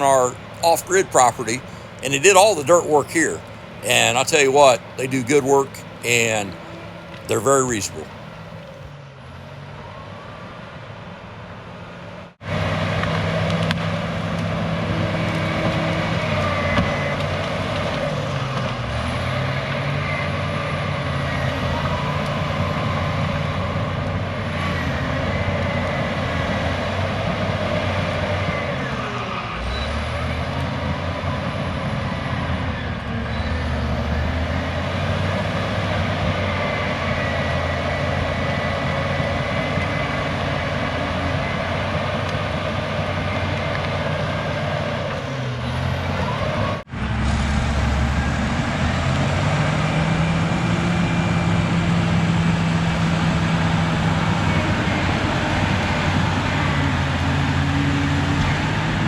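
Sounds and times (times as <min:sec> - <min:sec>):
bulldozer diesel engine under load: 0:00.0 - 0:10.2, 0:12.0 - 0:59.0.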